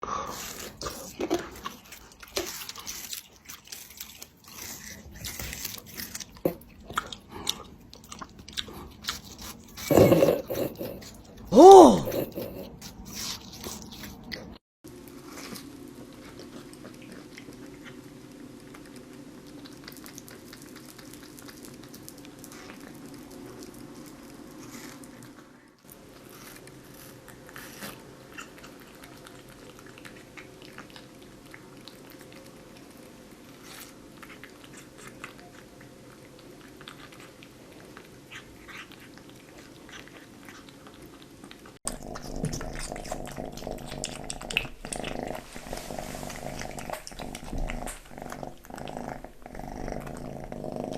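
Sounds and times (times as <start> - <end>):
cat chewing wetly: 0.1 - 50.9
kitten eating: 0.2 - 50.9.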